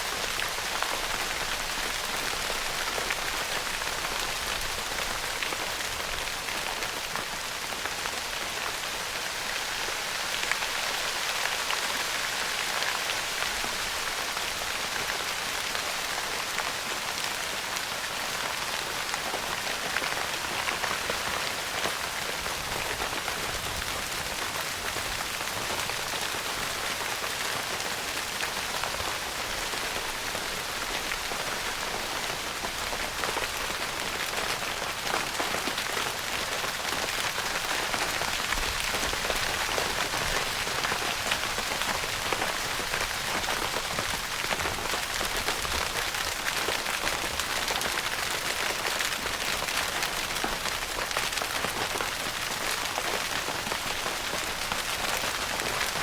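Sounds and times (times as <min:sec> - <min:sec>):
rain pattering on tent fabric: 0:00.0 - 0:56.0.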